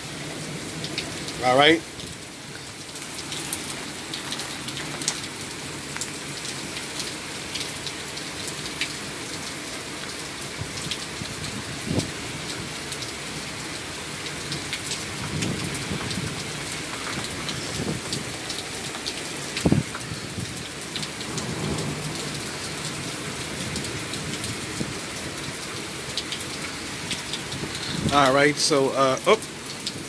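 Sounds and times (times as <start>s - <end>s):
heavy rain splashing: 0.0s - 30.0s.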